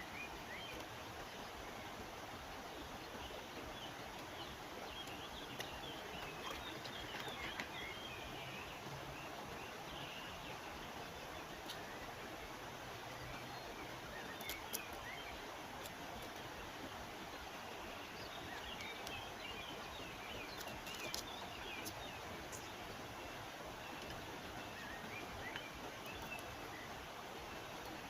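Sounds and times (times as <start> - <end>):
river rushing: 0.0 - 28.0
small birds chirping: 0.0 - 28.0.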